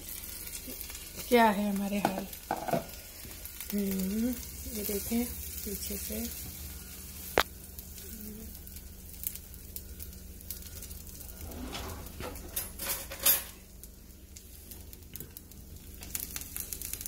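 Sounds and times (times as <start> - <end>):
batter sizzling in a pan: 0.0 - 17.0.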